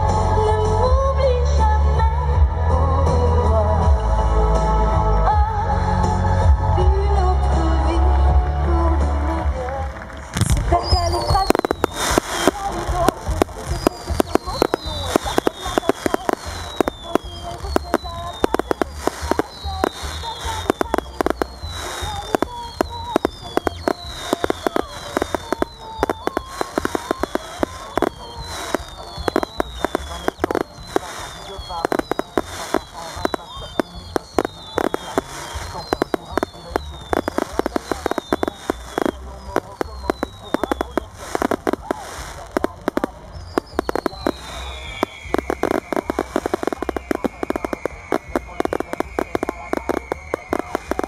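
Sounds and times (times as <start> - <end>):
fireworks bangs and crackles: 9.0 - 51.0.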